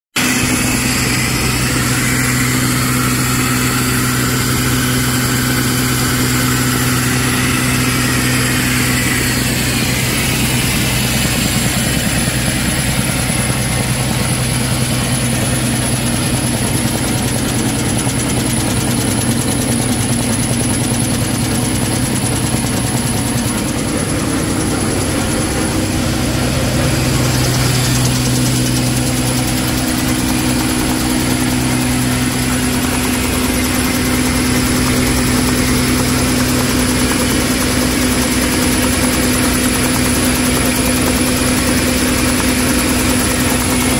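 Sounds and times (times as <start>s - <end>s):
folding machine hum: 0.2s - 36.6s.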